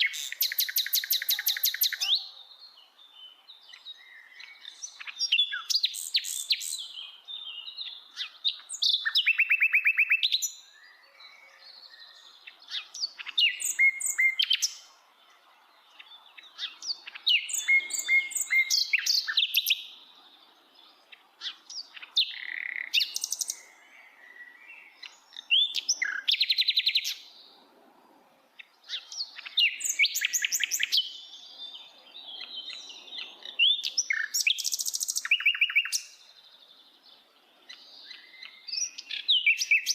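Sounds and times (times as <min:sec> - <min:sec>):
nightingale singing: 0:00.0 - 0:27.7, 0:28.4 - 0:39.9.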